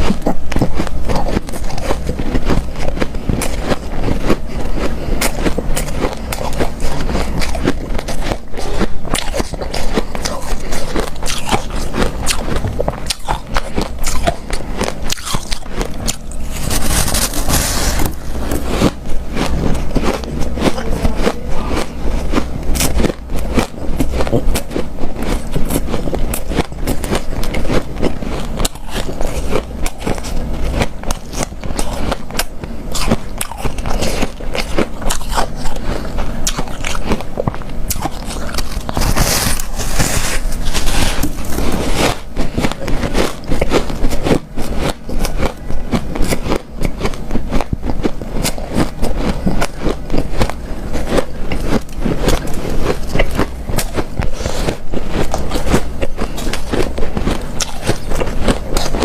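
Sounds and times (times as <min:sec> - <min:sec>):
crunching ice: 0:00.0 - 0:59.0.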